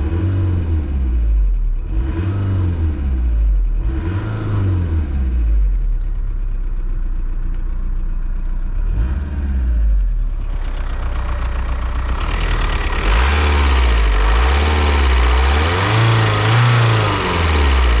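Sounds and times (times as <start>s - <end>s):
diesel engine revving: 0.0s - 5.6s, 8.8s - 18.0s.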